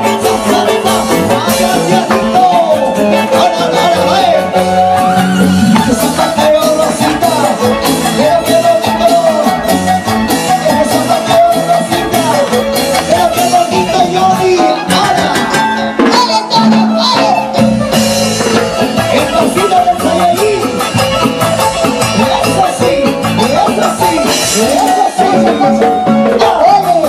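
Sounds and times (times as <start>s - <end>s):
live band music with singing: 0.0s - 27.0s.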